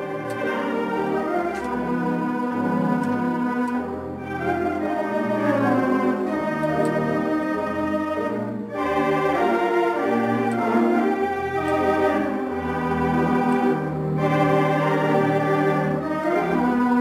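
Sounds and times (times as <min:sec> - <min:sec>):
pipe organ chords: 0:00.0 - 0:17.0.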